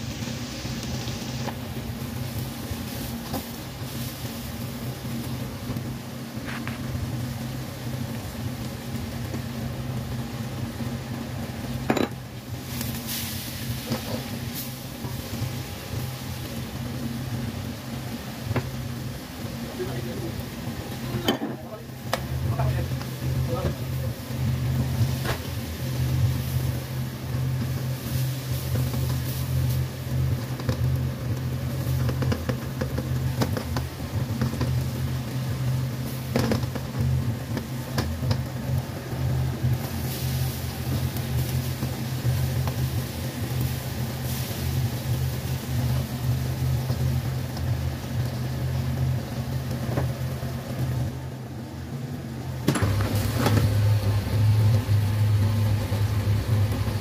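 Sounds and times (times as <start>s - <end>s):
spatula stirring onions in wok: 0.0s - 19.7s, 21.9s - 51.4s, 52.9s - 57.0s
steady low hum: 0.0s - 57.0s.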